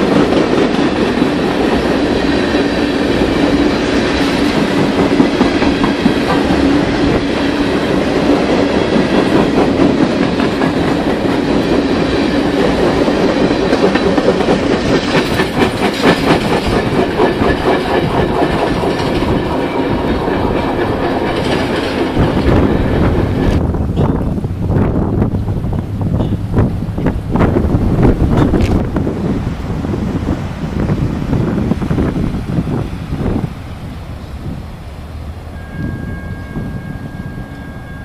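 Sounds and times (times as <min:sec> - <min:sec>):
train wheels rumbling and clacking: 0:00.0 - 0:38.0.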